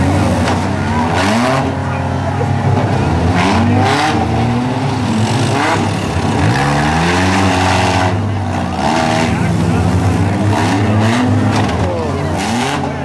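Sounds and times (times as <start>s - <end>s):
car engines revving hard: 0.0s - 13.0s
cars crashing: 0.0s - 13.0s.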